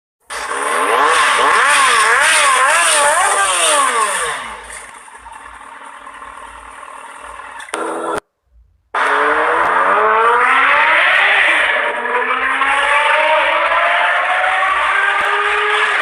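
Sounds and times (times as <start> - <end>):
motorbike engine revving: 0.3 - 8.2, 9.0 - 16.0.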